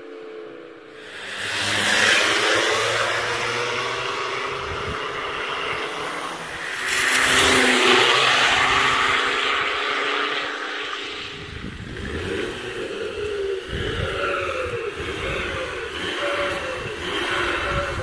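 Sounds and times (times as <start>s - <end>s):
diesel car driving past: 0.2s - 18.0s
tyres hissing on wet road: 0.9s - 17.9s.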